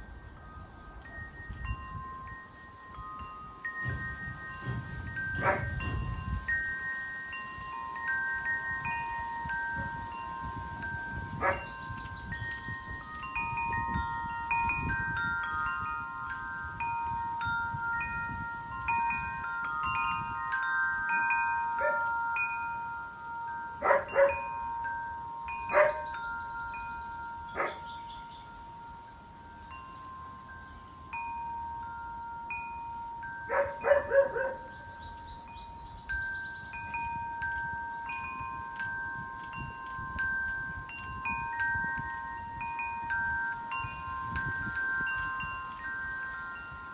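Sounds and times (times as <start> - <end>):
wind chimes ringing: 0.0 - 46.9
wind gusting on microphone: 0.0 - 46.9.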